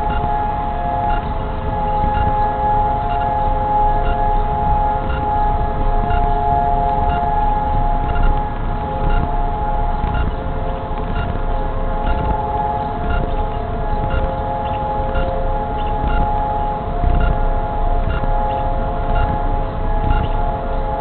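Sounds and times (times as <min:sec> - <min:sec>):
civil defence sirens wailing: 0:00.0 - 0:21.0
low rumble: 0:00.0 - 0:21.0.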